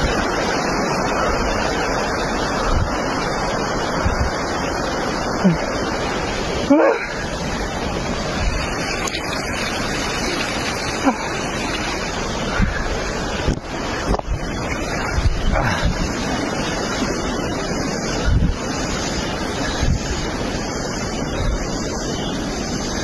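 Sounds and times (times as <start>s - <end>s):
floodwater rushing: 0.0s - 21.5s.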